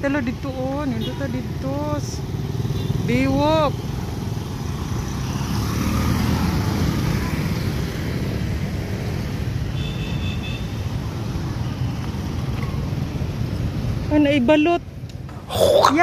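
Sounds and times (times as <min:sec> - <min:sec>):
motorcycles passing: 0:00.0 - 0:16.0.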